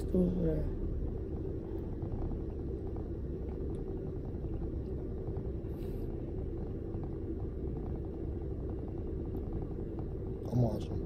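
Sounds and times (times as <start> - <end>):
low rumble and hum in van: 0.0 - 11.0.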